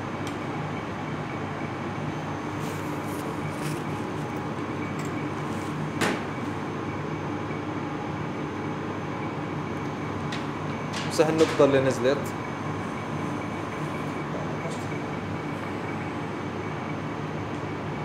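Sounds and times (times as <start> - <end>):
ventilation drone: 0.0 - 18.0.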